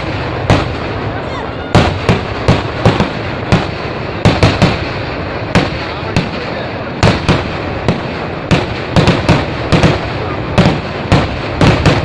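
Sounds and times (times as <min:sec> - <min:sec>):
background rumble: 0:00.0 - 0:12.0
fireworks bangs: 0:00.0 - 0:12.0.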